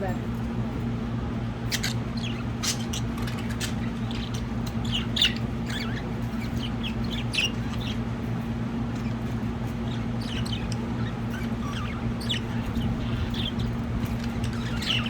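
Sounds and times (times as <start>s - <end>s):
steady low hum: 0.0s - 15.0s
budgerigars chirping: 1.6s - 15.0s.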